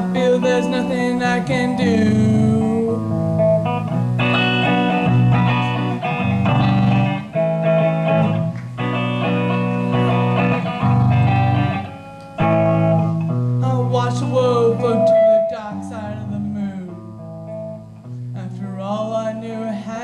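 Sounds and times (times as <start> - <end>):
bass guitar: 0.0 - 20.0
electric guitar rhythmic chords: 0.0 - 20.0.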